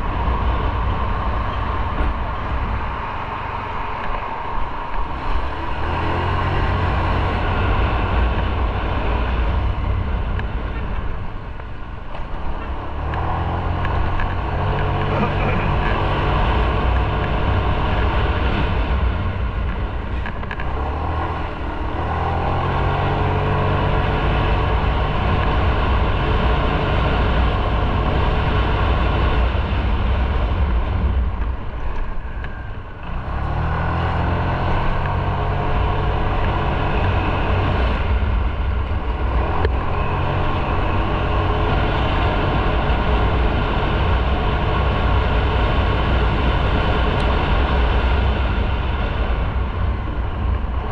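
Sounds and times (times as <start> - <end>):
road noise: 0.0 - 50.9
wind: 0.0 - 50.9
motorcycle engine running: 5.2 - 50.9.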